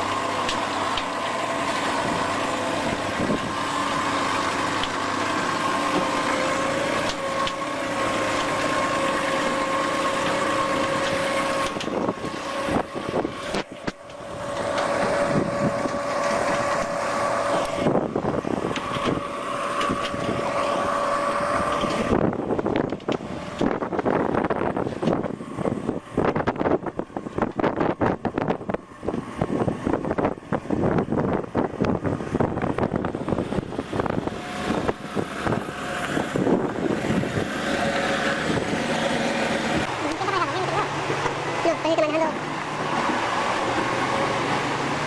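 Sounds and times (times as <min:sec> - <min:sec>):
rumbling and buffeting: 0:00.0 - 0:45.0
truck engine whining under load: 0:00.0 - 0:45.0.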